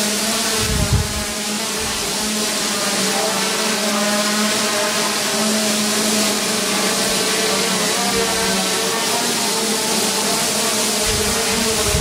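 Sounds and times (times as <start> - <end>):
quadcopter hovering: 0.0 - 12.0.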